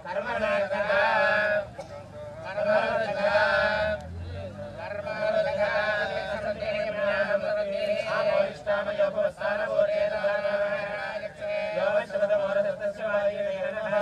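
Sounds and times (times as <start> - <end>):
priests chanting together: 0.0 - 14.0.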